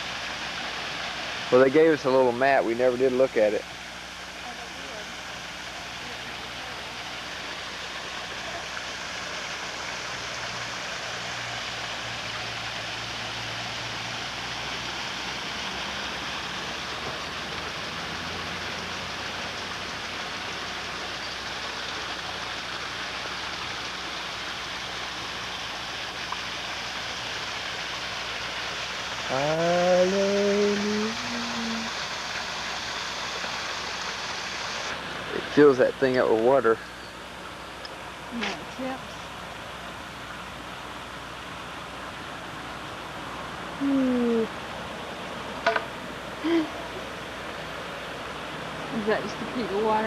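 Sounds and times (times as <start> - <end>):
water rushing: 0.0 - 50.0.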